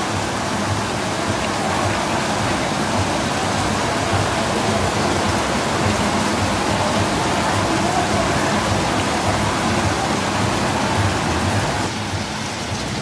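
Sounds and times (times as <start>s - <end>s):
heavy rain: 0.0s - 13.0s
rushing water: 0.0s - 13.0s.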